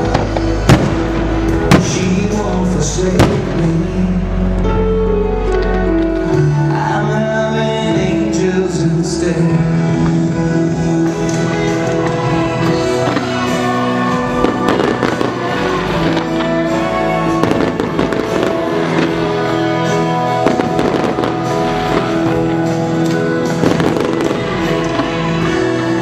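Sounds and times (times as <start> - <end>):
loud show music: 0.0 - 26.0.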